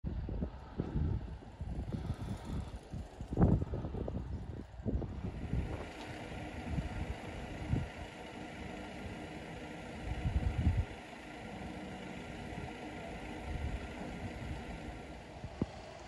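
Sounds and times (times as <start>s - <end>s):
wind buffeting microphone: 0.0s - 16.0s
vehicle engine idling: 1.2s - 16.0s.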